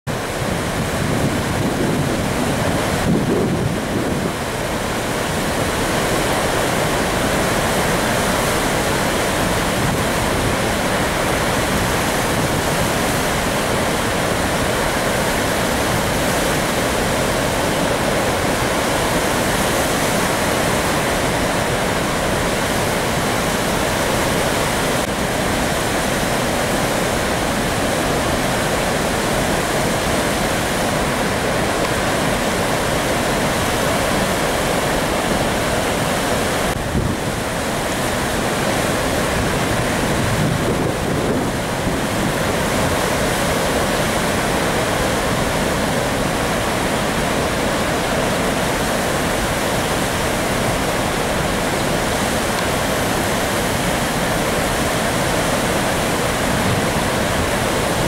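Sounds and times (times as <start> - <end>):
rushing water falling: 0.1 - 58.0.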